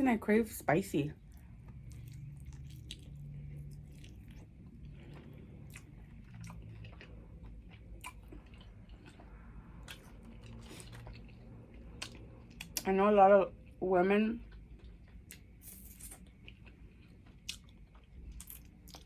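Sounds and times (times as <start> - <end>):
close-up chewing: 1.2 - 12.9, 14.4 - 19.0.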